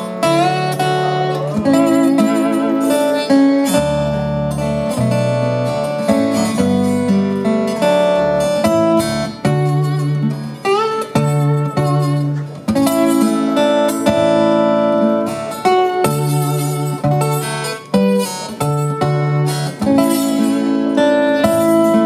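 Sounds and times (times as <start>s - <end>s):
acoustic lap steel guitar: 0.0s - 22.0s.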